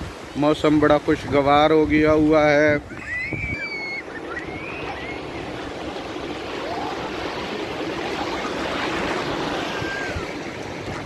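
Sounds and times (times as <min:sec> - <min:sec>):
small waves breaking: 0:00.0 - 0:11.0.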